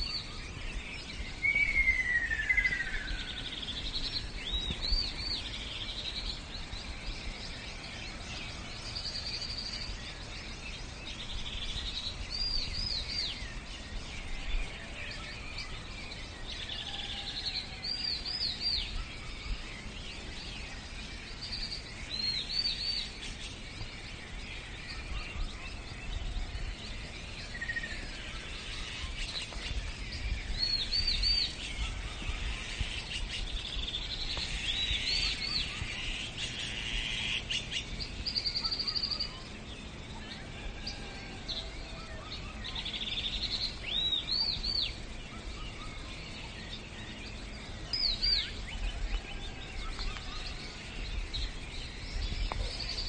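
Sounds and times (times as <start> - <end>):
outdoor ambient hiss: 0.0 - 53.0
songbirds chirping: 0.0 - 53.0.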